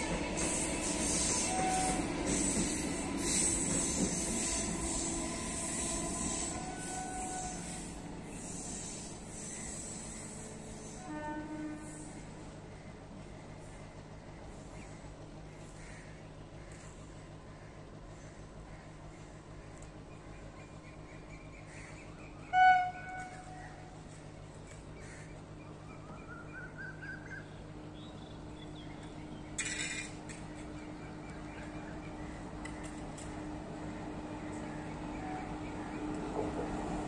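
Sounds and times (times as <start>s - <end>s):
distant train hum: 0.0s - 37.0s.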